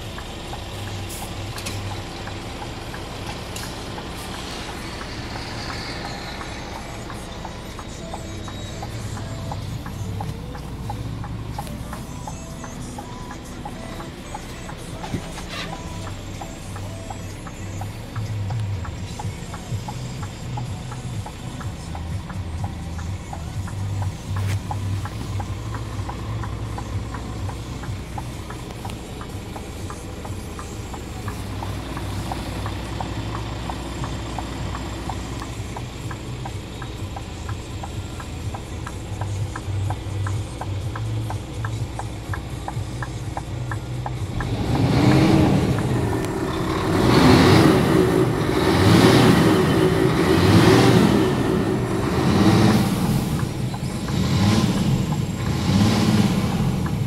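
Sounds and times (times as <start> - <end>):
diesel truck engine idling and revving: 0.0 - 57.0
light ticking: 0.0 - 57.0.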